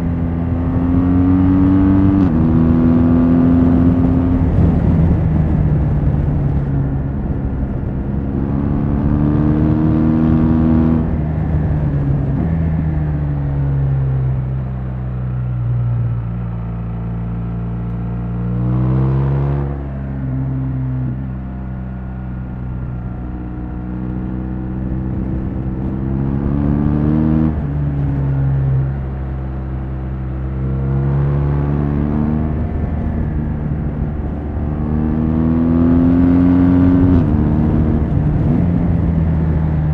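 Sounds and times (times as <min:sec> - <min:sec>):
motorcycle engine revving: 0:00.0 - 0:13.5, 0:16.0 - 0:39.9.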